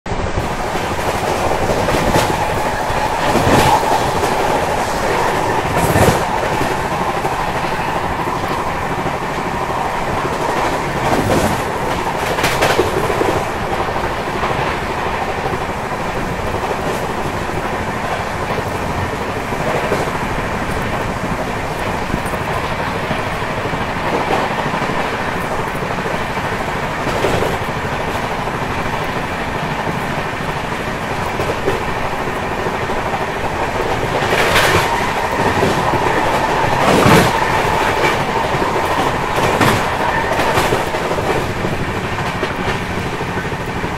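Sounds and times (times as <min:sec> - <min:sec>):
train wheels rushing on rails: 0:00.1 - 0:43.9
wheels clacking over rail joints: 0:00.3 - 0:43.9.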